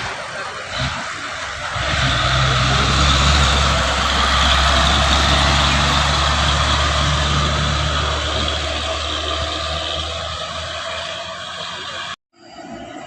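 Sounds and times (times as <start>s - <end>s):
truck engine humming: 0.0s - 12.8s.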